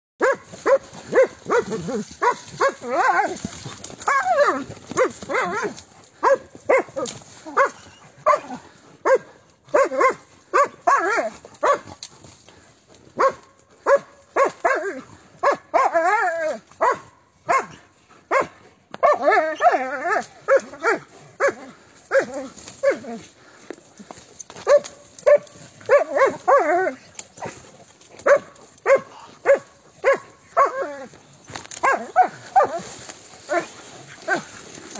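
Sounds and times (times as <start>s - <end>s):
dogs barking: 0.2s - 12.0s, 13.2s - 23.3s, 24.6s - 34.9s.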